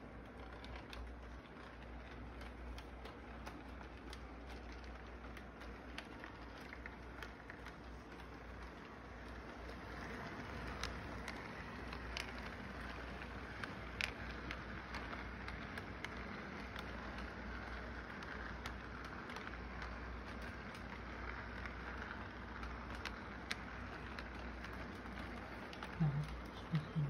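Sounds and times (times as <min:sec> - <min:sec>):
model train rolling rumble: 0:00.0 - 0:27.0
sharp track clicks: 0:00.0 - 0:27.0.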